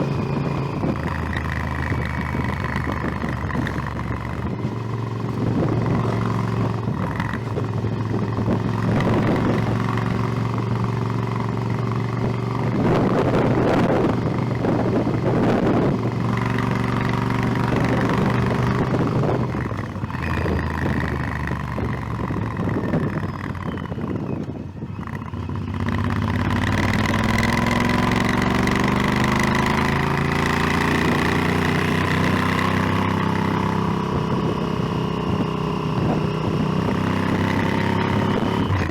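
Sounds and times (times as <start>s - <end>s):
motorcycle engine accelerating: 0.0s - 38.9s
wind on microphone: 0.0s - 38.9s.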